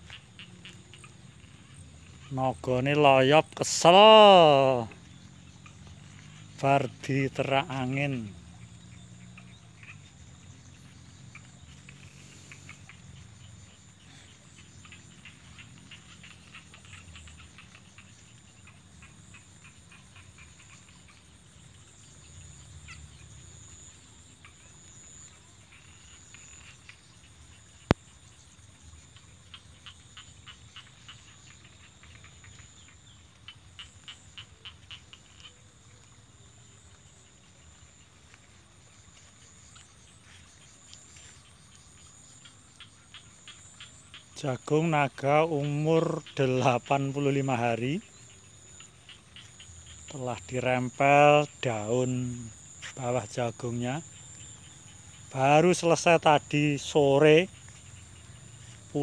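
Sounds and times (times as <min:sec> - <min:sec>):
crickets chirping: 0:00.0 - 0:59.0
insects trilling: 0:00.0 - 0:59.0.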